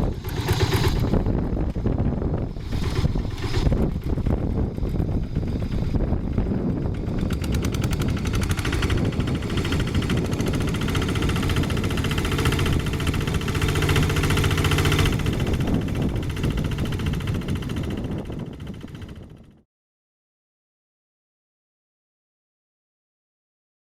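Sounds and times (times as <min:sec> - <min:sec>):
diesel tractor engine chugging: 0:00.0 - 0:19.6.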